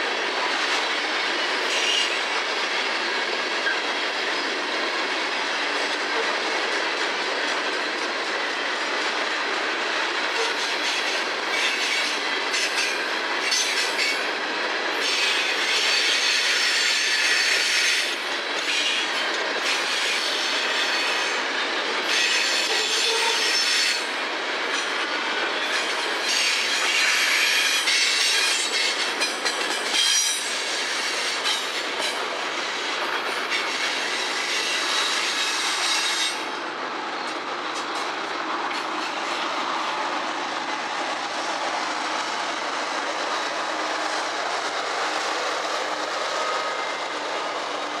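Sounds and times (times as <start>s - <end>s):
freight train wheels clacking: 0.0s - 48.0s.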